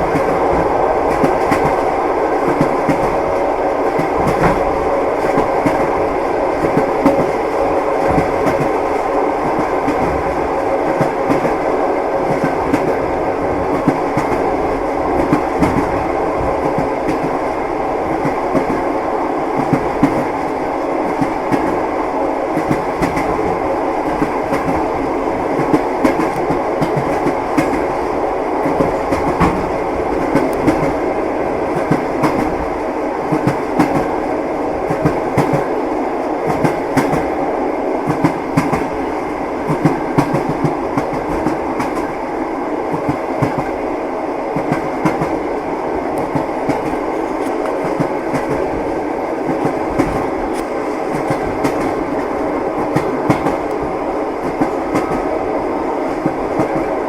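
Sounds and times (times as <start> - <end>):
train wheels clickety-clack: 0.0 - 42.2, 42.9 - 43.9, 44.5 - 55.4, 56.0 - 57.0
train rumble: 0.0 - 57.0.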